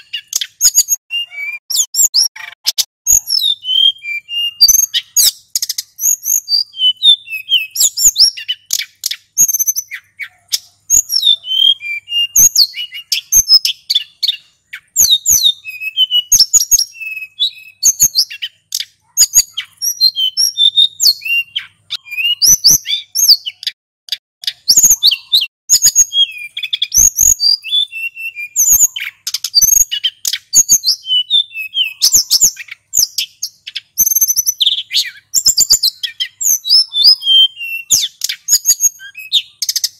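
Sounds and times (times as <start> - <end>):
bird singing whistled trills: 0.0 - 23.8, 24.4 - 39.9.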